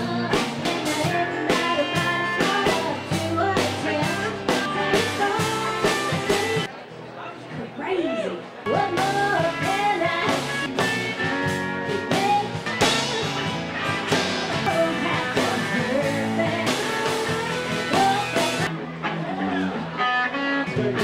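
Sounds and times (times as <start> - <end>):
rock music with singing: 0.0 - 6.7, 8.6 - 21.0.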